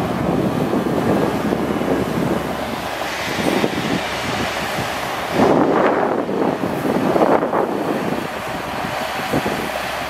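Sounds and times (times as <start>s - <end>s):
diesel engine running: 0.0s - 10.0s
wind buffeting microphone: 0.0s - 10.0s
water spraying onto gravel: 0.1s - 10.0s.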